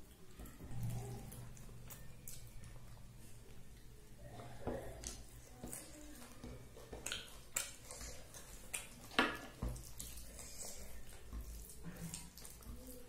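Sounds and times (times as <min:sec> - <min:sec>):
fingers mixing wet food: 0:00.0 - 0:13.0.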